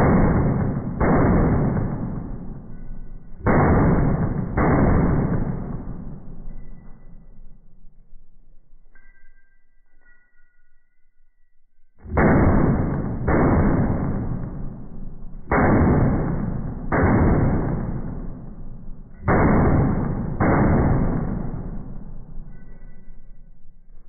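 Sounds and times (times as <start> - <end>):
slow motion rifle shots: 0.0 - 7.6, 12.0 - 24.0.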